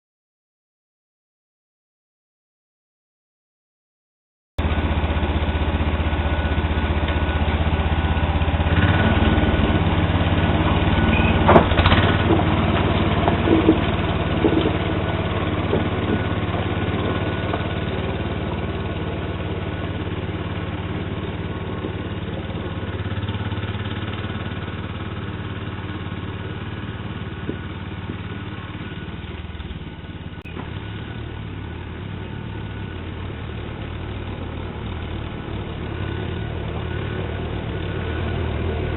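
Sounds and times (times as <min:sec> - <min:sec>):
garden tractor engine running: 0:04.6 - 0:38.9.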